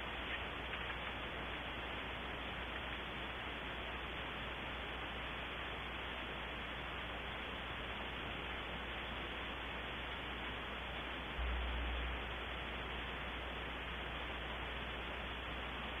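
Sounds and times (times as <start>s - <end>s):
microphone static hiss: 0.0s - 16.0s.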